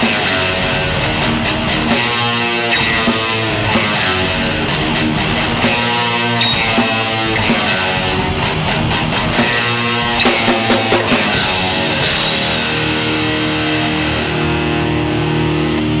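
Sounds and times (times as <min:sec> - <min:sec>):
drum fill: 0:00.0 - 0:14.5
held guitar chord ringing: 0:00.0 - 0:16.0
live rock band playing: 0:00.0 - 0:16.0.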